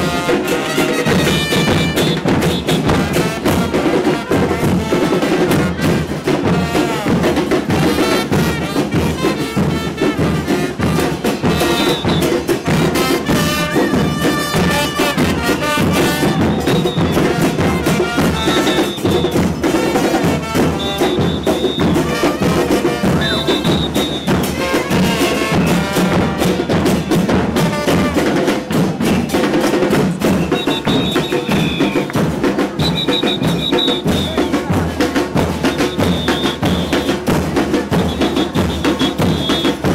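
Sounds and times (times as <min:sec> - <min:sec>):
drum group beating rhythm: 0:00.0 - 0:39.9.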